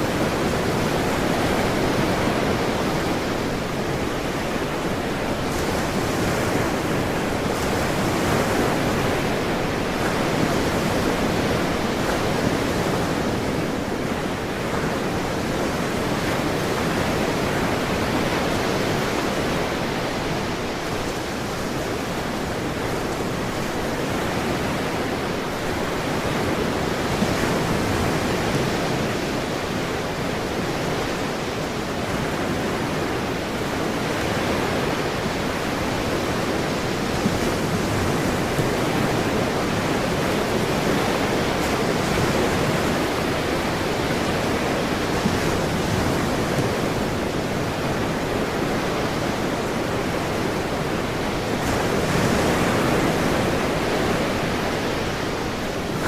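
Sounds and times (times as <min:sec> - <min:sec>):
ocean surf: 0:00.0 - 0:56.0.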